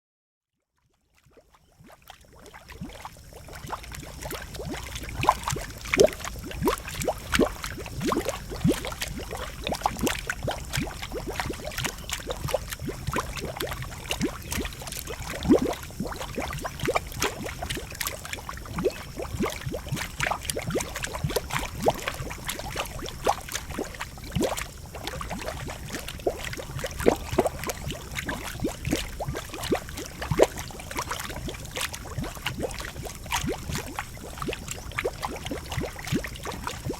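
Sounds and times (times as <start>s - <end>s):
hot pool bubbling and gurgling: 0.9s - 36.9s.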